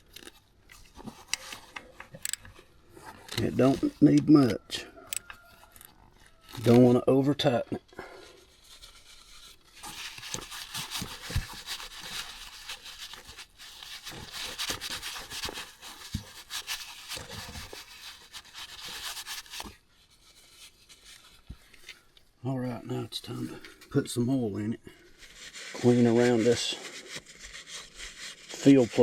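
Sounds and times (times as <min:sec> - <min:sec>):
scratchy rubbing and rustling: 0:00.0 - 0:22.3, 0:22.9 - 0:29.0.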